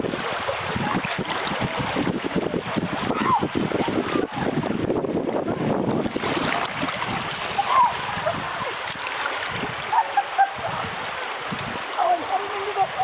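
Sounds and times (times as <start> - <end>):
river water rushing and splashing: 0.0 - 13.0.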